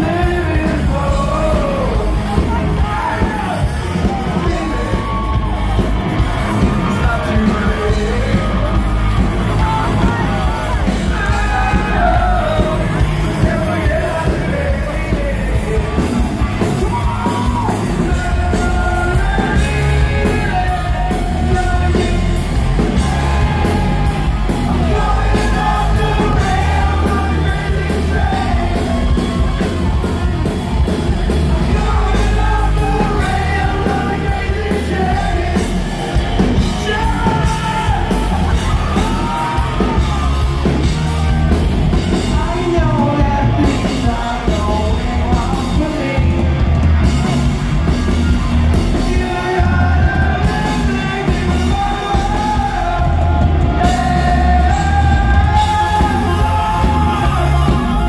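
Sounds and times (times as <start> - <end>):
person singing and yelling: 0.0 - 46.7, 48.2 - 58.0
live heavy metal band: 0.0 - 58.0.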